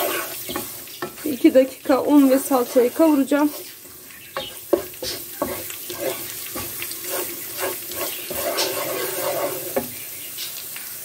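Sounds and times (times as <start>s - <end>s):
wooden spoon scraping pan: 0.0s - 10.1s
frying sizzle: 0.0s - 11.0s.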